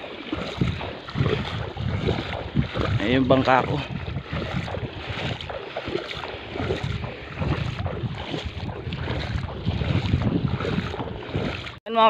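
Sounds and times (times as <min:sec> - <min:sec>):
wind buffeting microphone: 0:00.0 - 0:11.8
water lapping and sloshing: 0:00.0 - 0:12.0.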